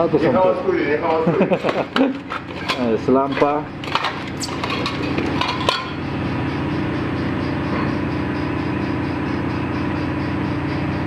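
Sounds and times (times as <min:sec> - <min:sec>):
engine-room machinery drone: 0:00.0 - 0:11.0.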